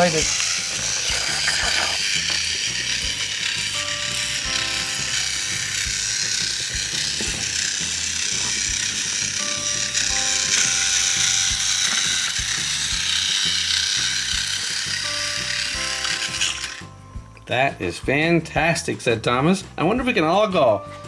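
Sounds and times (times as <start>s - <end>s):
toy train motor whirring: 0.0s - 20.5s
background music: 0.0s - 21.0s.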